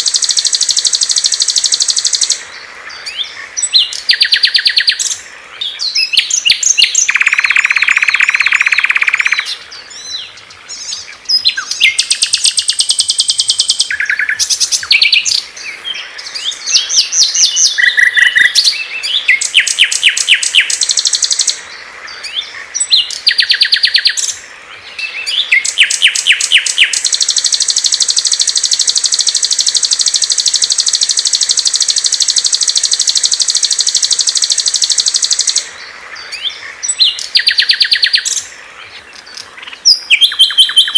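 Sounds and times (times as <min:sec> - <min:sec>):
long high bird trill: 0:00.0 - 0:02.4, 0:03.0 - 0:05.2, 0:05.8 - 0:10.1, 0:10.7 - 0:21.6, 0:22.7 - 0:24.4, 0:25.0 - 0:38.5
songbirds chirping and trilling: 0:00.0 - 0:40.9.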